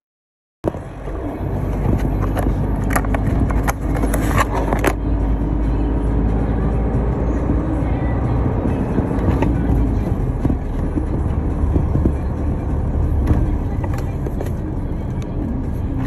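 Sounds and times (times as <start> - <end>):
vehicle driving on road: 0.6 - 16.0.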